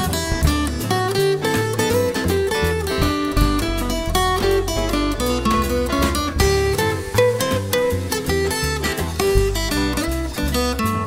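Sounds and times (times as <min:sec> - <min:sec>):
plucked-string melody: 0:00.0 - 0:11.0
pulsing bass line: 0:00.0 - 0:11.0.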